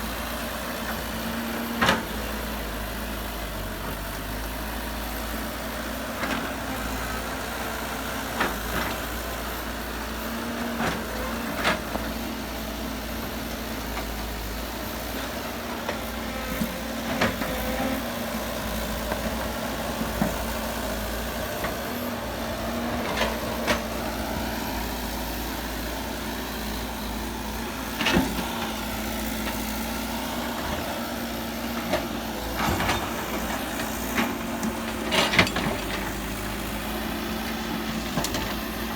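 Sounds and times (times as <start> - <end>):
heavy diesel machinery running: 0.0 - 38.9.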